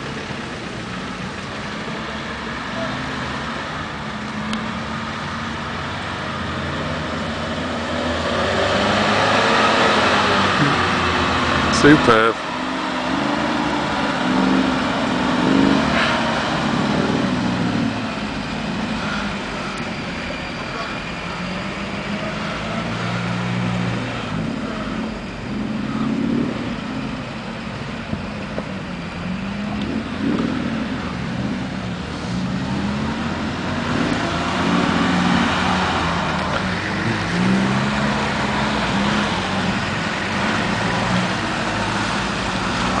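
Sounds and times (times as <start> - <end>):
off-road vehicle engine revving: 0.0 - 43.0.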